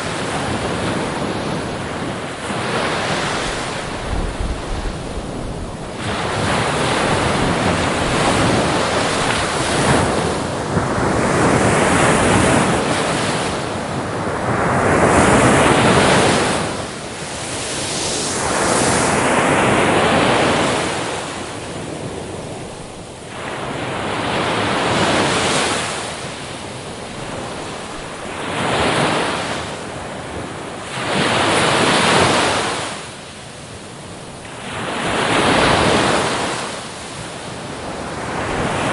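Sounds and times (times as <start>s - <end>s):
sea waves breaking on shore: 0.0s - 38.9s
wind noise on microphone: 0.0s - 38.9s.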